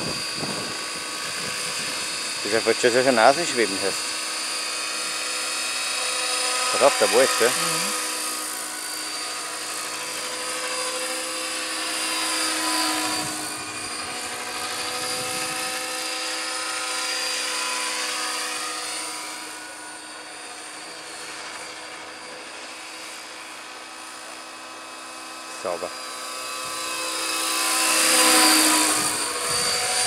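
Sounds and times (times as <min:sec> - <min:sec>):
model helicopter rotor whine: 0:00.0 - 0:30.0.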